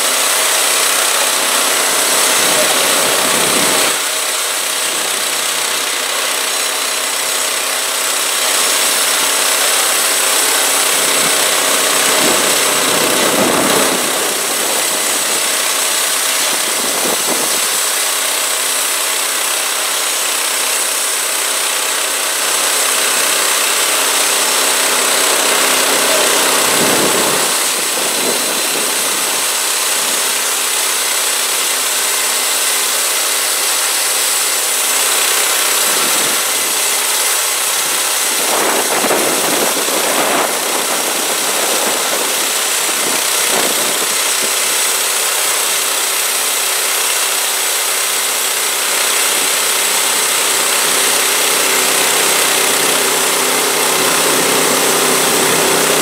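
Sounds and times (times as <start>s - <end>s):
band blade cutting log: 0.0s - 56.0s
small gasoline engine under load: 0.0s - 56.0s.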